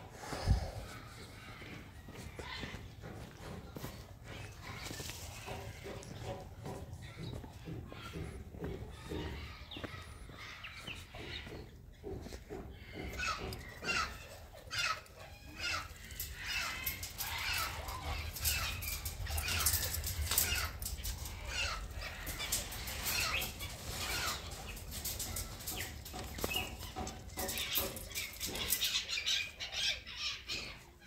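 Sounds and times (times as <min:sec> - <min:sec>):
many birds chirping: 0:00.0 - 0:31.0.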